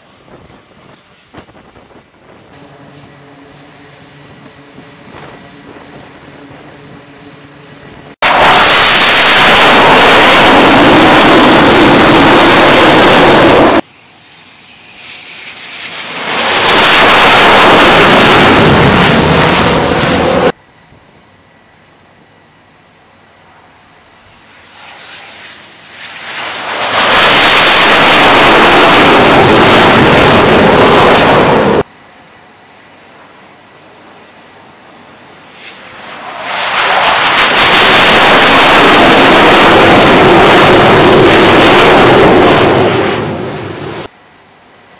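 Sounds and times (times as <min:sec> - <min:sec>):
jet fighter engines roaring: 0:00.0 - 0:21.2, 0:23.4 - 0:44.2.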